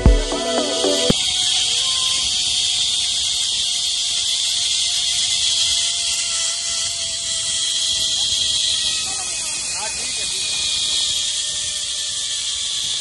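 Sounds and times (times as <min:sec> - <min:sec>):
zipline pulleys whirring on cable: 0:00.0 - 0:13.0.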